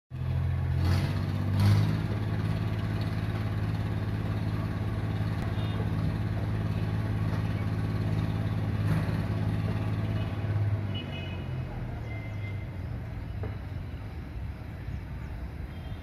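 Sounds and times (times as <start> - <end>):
vehicle engine idling: 0.1 - 16.0.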